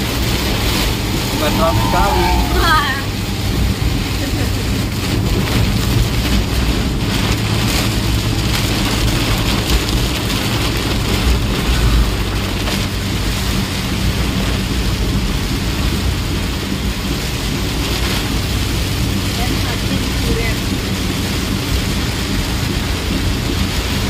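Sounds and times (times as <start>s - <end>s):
engine humming: 0.0s - 24.0s
heavy rain on vehicle: 0.0s - 24.0s.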